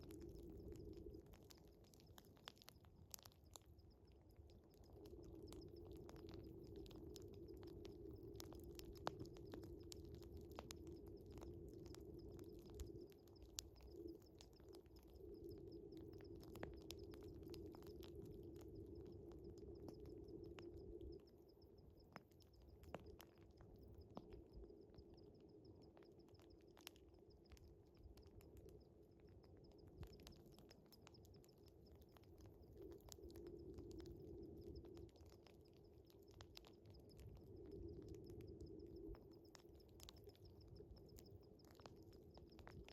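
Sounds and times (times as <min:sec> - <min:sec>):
wood fire crackling: 0:00.0 - 0:24.9, 0:25.9 - 0:42.9
crickets trilling: 0:00.0 - 0:42.9.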